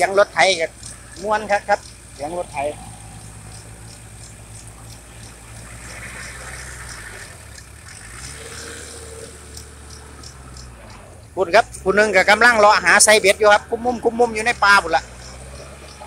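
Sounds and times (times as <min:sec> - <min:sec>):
distant tractor engine humming: 0:00.0 - 0:16.0.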